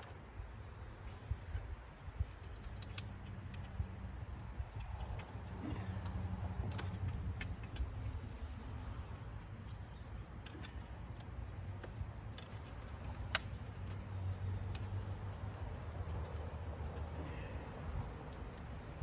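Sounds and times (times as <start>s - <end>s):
steady low rumble: 0.0s - 19.0s
light clicks of wire handling: 1.0s - 19.0s.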